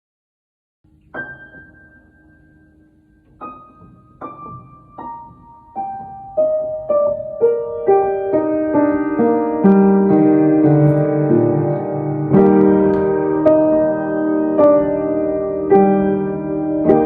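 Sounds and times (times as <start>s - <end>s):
piano music: 0.9s - 17.0s.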